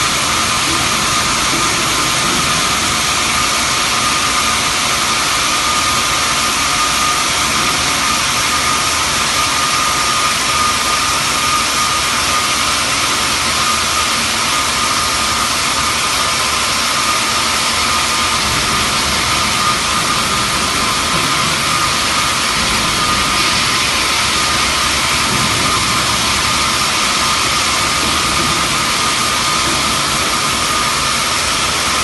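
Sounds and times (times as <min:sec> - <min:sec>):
bandsaw cutting stone whine: 0:00.0 - 0:32.0.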